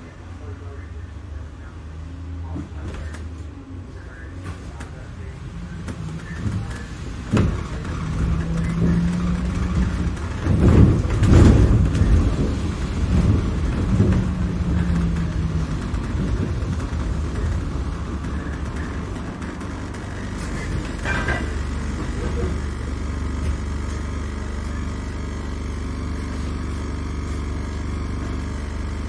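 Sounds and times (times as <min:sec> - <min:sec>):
bus engine and road rumble: 0:00.0 - 0:29.0
engine hum: 0:00.0 - 0:29.0
bus body knocking and rattling: 0:02.4 - 0:03.6, 0:04.4 - 0:29.0.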